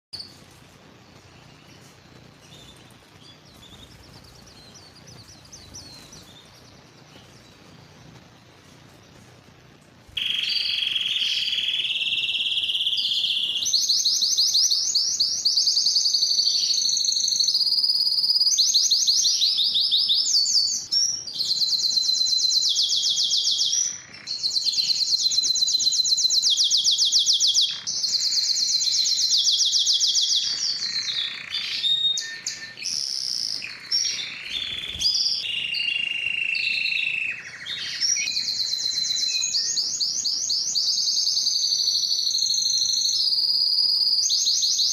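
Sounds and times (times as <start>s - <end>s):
canary singing trills: 0.2s - 44.9s.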